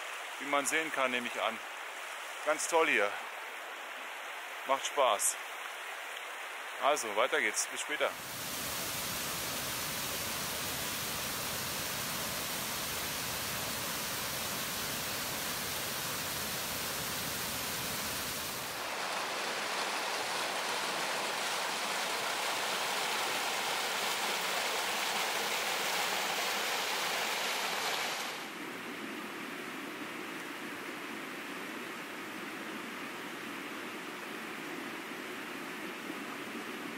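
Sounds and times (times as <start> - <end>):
stream rushing: 0.0 - 36.9.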